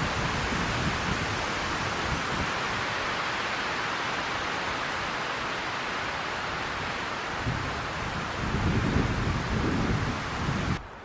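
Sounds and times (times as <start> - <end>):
rushing outdoor background noise: 0.0 - 11.0.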